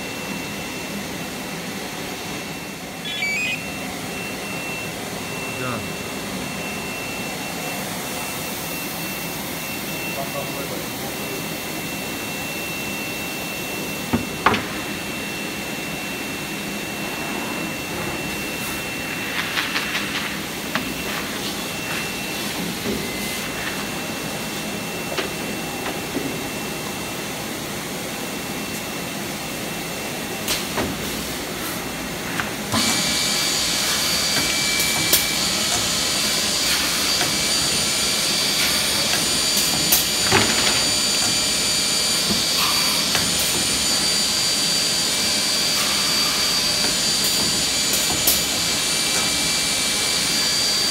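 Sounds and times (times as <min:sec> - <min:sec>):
high machine whine: 0:00.0 - 0:30.5, 0:31.3 - 0:50.9.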